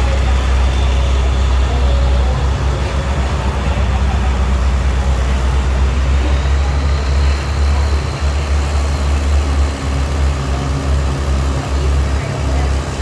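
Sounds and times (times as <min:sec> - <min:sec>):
outdoor crowd noise: 0:00.0 - 0:13.0
tractor engine humming: 0:00.0 - 0:13.0.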